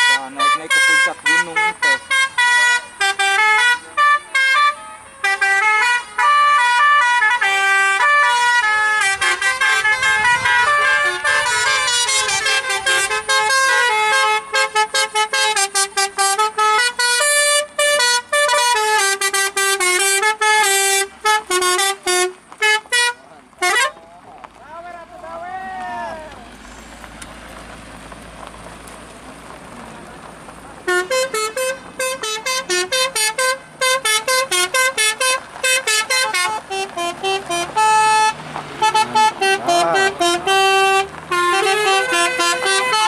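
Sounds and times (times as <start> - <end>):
musical bus horn melody: 0.0 - 24.0, 30.8 - 43.0.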